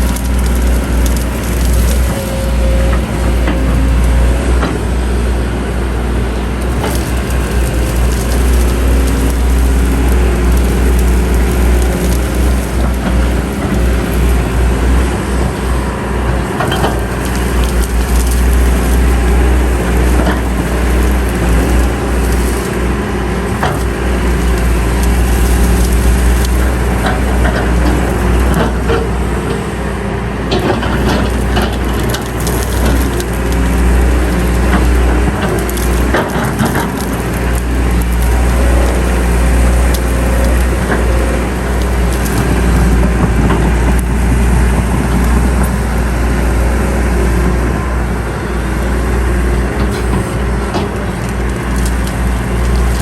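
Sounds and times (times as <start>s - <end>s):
heavy diesel machinery running: 0.0s - 53.0s
soil and stones crunching: 0.0s - 53.0s.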